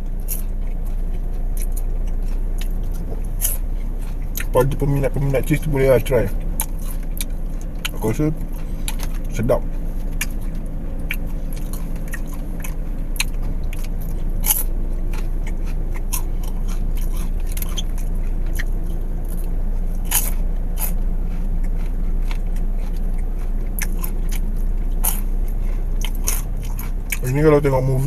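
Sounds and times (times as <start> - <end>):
low car hum: 0.0 - 28.0
popcorn crunching: 0.0 - 28.0.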